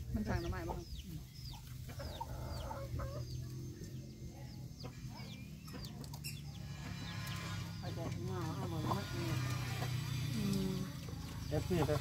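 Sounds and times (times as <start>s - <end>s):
chickens chirping: 0.0s - 12.0s
chickens clucking: 0.0s - 12.0s.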